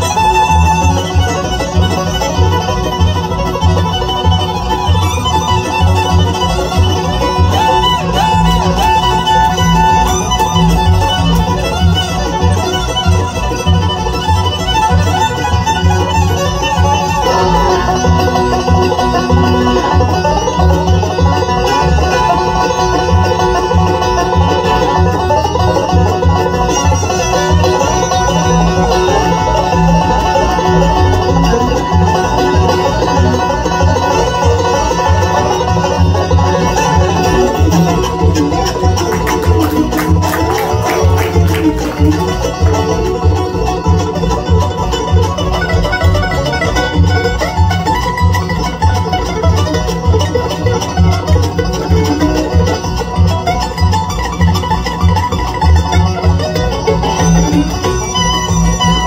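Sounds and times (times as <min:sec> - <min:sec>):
banjo playing: 0:00.0 - 0:59.0
fiddle playing: 0:00.0 - 0:59.0
upright bass playing: 0:00.0 - 0:59.0.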